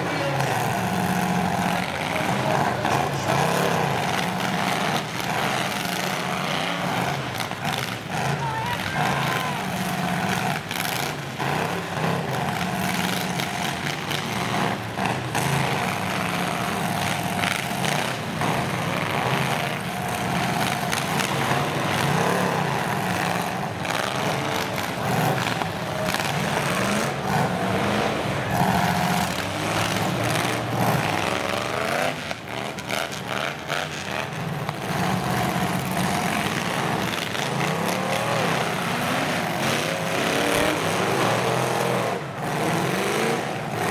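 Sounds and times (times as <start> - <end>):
truck engines revving: 0.0 - 43.9
trucks crashing: 0.0 - 43.9.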